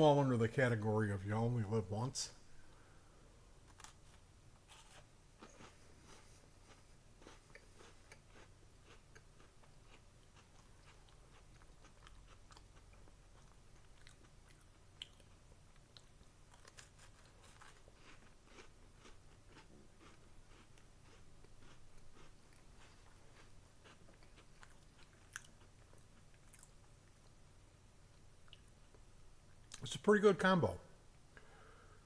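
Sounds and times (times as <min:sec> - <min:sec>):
chewing and crunching biscuit: 0:03.6 - 0:29.9.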